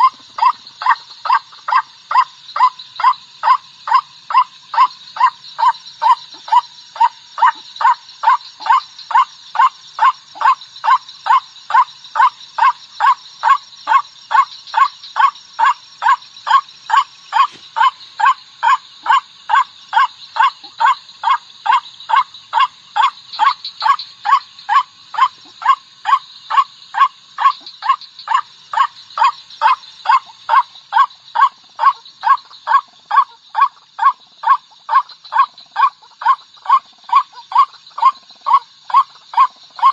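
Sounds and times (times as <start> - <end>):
constant high hiss: 0.0 - 39.9.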